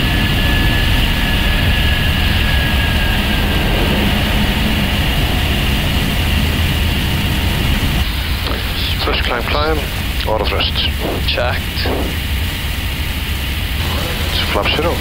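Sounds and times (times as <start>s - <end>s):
aircraft engine and airflow noise: 0.0s - 15.0s
high engine whine: 0.0s - 15.0s
lower engine whine: 0.0s - 15.0s.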